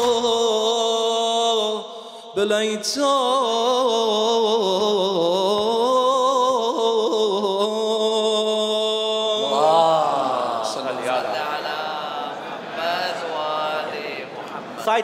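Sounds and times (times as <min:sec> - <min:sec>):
man singing unaccompanied lament: 0:00.0 - 0:12.1.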